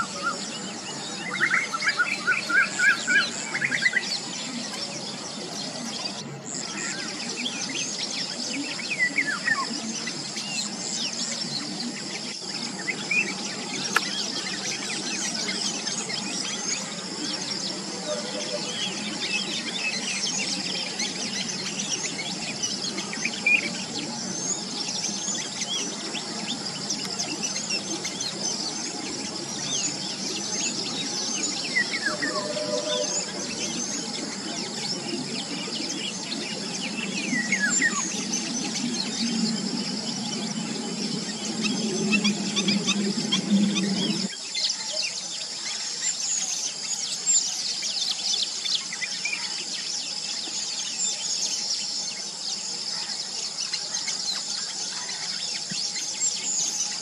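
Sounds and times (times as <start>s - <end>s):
insect drone: 0.0s - 57.0s
small birds chirping: 0.0s - 57.0s.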